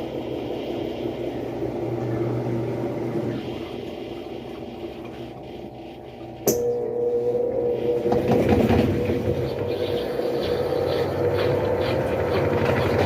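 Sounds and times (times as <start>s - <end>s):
washing machine spin hum: 0.0s - 13.0s.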